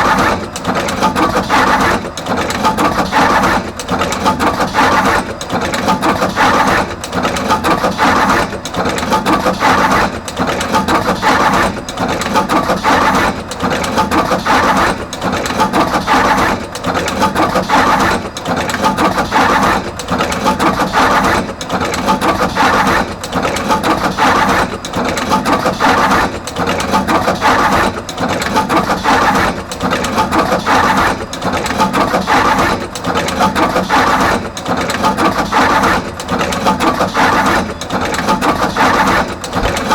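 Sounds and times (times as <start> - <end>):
wire crimping machine clattering: 0.0 - 39.9.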